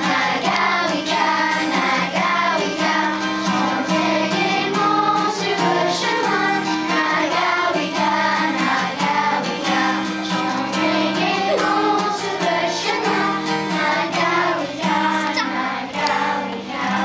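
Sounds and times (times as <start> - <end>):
children singing: 0.0 - 17.0
strummed acoustic guitar: 0.0 - 17.0.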